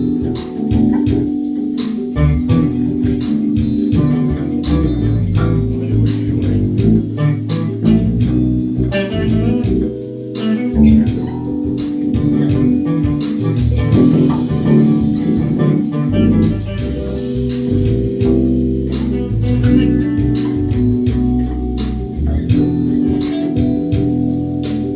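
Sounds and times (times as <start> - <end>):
electric bass guitar playing: 0.0 - 24.9.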